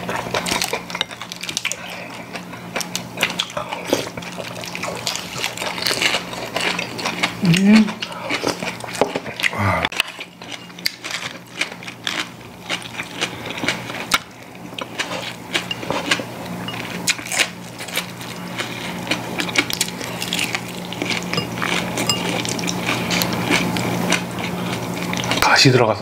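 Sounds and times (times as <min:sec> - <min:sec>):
chewing and crunching: 0:00.0 - 0:25.4.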